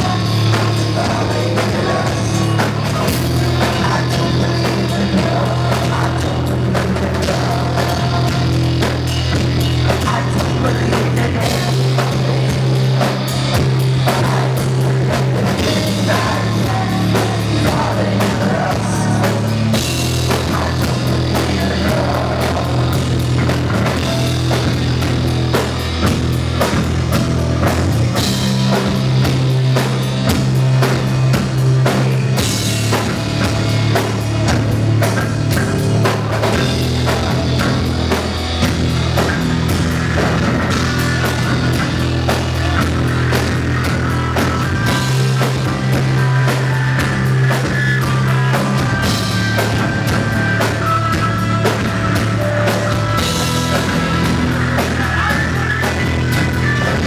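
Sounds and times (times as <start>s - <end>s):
heavy bass line: 0.0s - 57.0s
loud driving drum kit: 0.0s - 57.0s.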